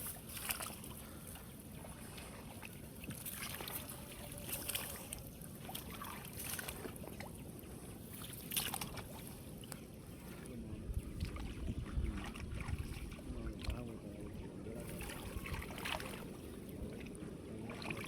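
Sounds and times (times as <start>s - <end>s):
water splashing and sloshing: 0.0s - 18.0s
wind rumble on microphone: 0.0s - 18.0s.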